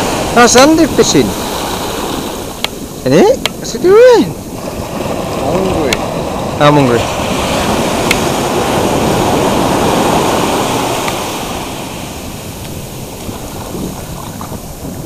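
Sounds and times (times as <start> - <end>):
sea surf rushing on beach: 0.0 - 15.0.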